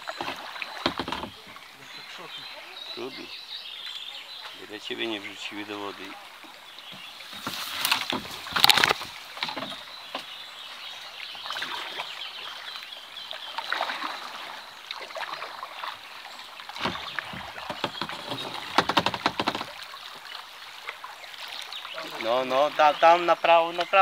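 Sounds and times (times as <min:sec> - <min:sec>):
water rushing past hull: 0:00.0 - 0:23.9
kayak paddle strokes splashing: 0:00.0 - 0:24.0.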